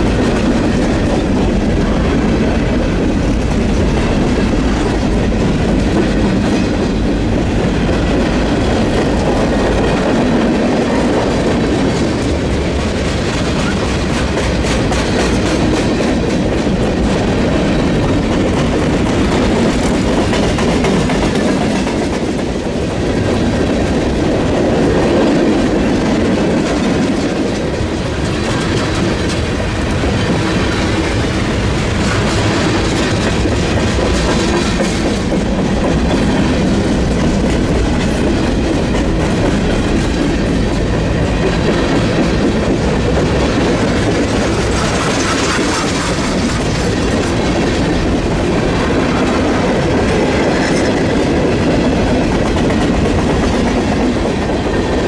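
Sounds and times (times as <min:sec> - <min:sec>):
freight train wheels on rail: 0:00.0 - 0:55.0
wheels clacking over rail joints: 0:00.0 - 0:55.0.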